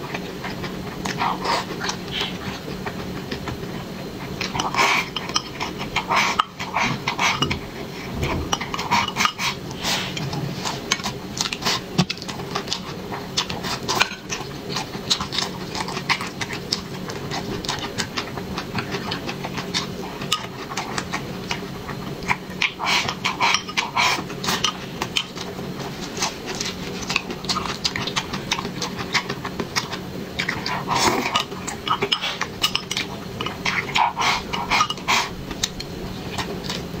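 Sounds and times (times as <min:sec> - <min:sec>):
chewing and smacking: 0:00.0 - 0:09.5, 0:10.6 - 0:36.9.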